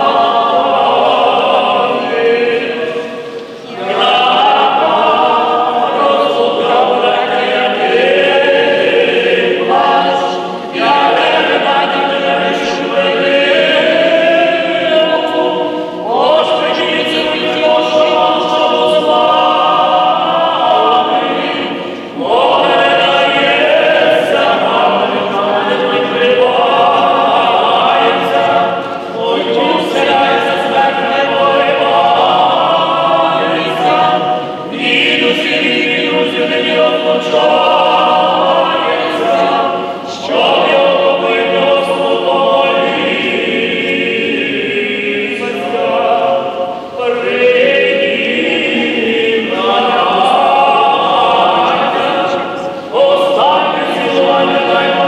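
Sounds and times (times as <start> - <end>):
choir singing a cappella chant: 0.0 - 55.0.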